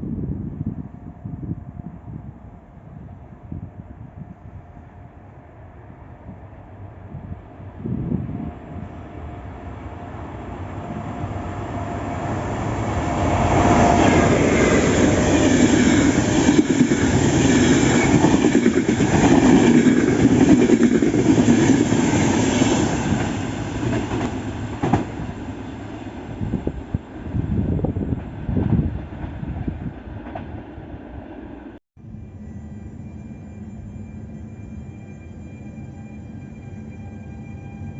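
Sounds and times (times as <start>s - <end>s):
train passing with wheel rumble: 0.0s - 37.9s.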